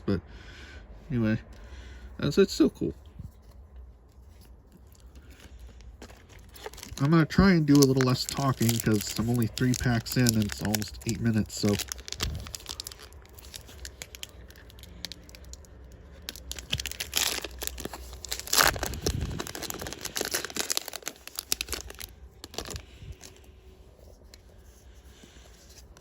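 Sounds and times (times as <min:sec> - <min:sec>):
wrapper crinkling and tearing: 0:03.5 - 0:26.0.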